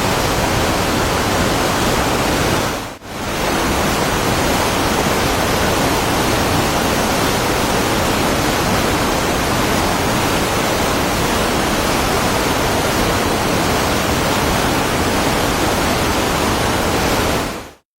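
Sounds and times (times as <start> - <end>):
waterfall rushing: 0.0 - 17.8.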